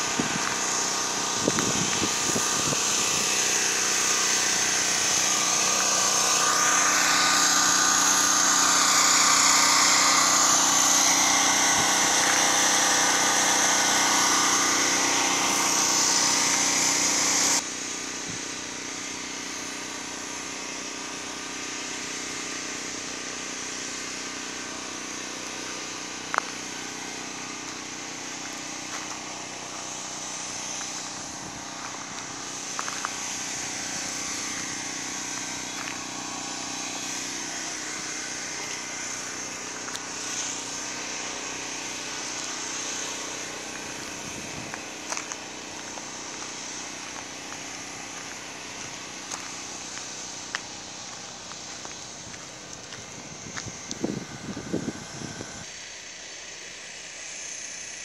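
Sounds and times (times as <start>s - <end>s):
engine running with a whine: 0.0s - 58.0s.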